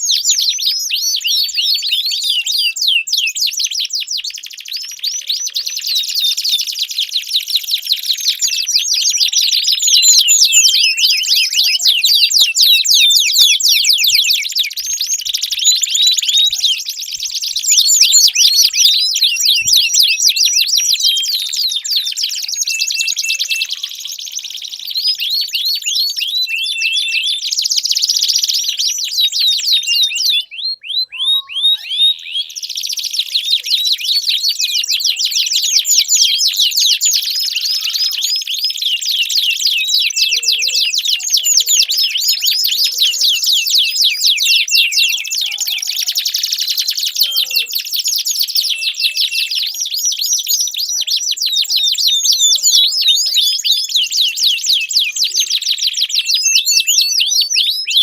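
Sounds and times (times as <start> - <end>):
canary trilling song: 0.0 - 58.0.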